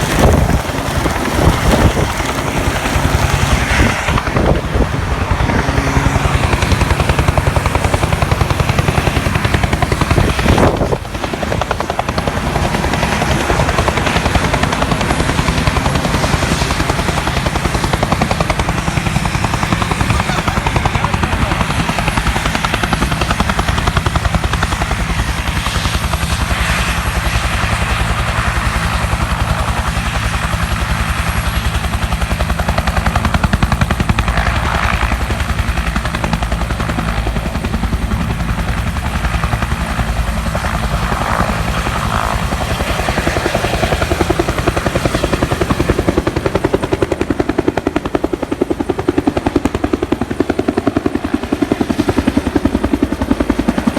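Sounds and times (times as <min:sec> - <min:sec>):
helicopter rotor chopping: 0:00.0 - 0:53.9
helicopter turbine: 0:00.0 - 0:53.9.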